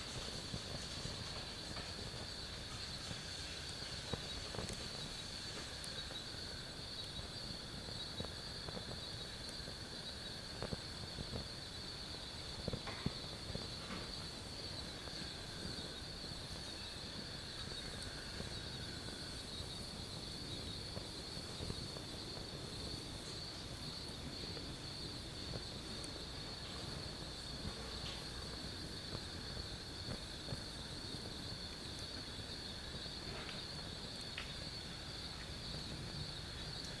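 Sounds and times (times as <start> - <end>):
crickets trilling: 0.0 - 37.0
low steady hiss: 0.0 - 37.0.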